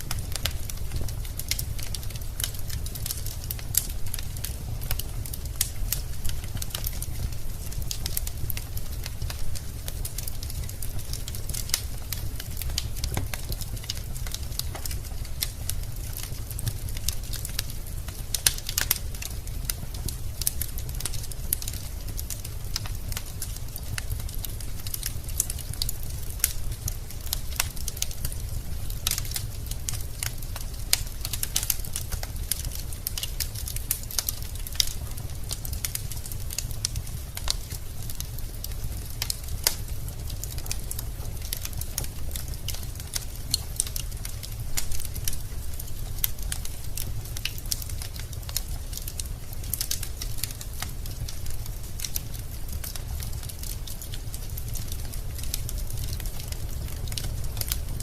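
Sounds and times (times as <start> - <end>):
fire rumbling: 0.0 - 58.0
logs crackling and popping: 0.0 - 58.0.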